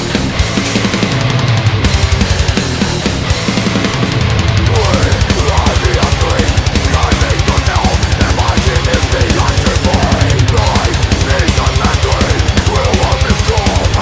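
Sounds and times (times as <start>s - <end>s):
heavy metal band playing: 0.0s - 14.0s
rapid kick-drum beats: 0.0s - 14.0s.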